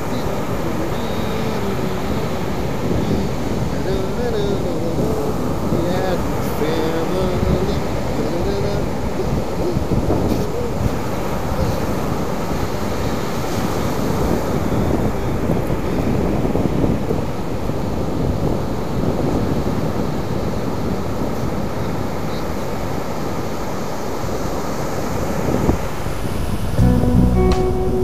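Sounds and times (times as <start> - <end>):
ocean surf washing up: 0.0 - 28.0
wind buffeting microphone: 0.0 - 28.0.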